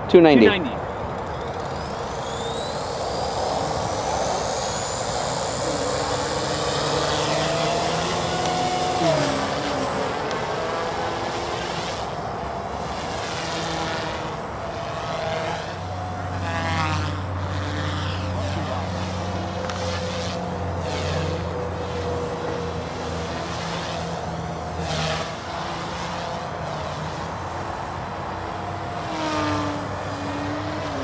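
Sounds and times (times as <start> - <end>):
rc helicopter motor whine: 0.4 - 31.0.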